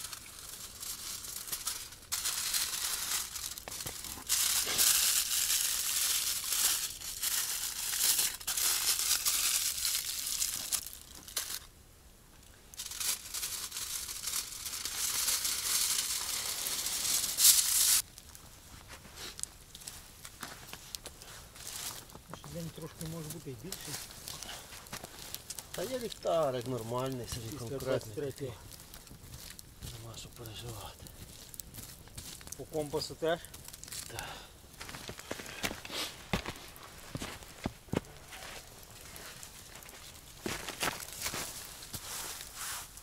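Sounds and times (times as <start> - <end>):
bags crinkling and rustling: 0.0 - 11.7, 12.8 - 43.0.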